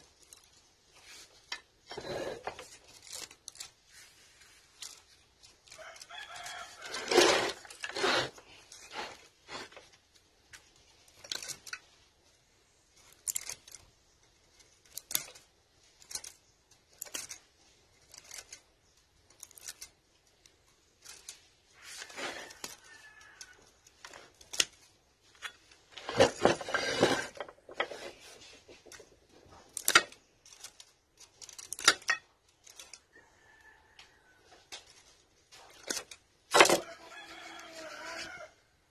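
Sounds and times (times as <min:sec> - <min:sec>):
hand tool snipping and scraping wire: 0:00.0 - 0:12.0, 0:13.0 - 0:33.2, 0:34.0 - 0:38.5.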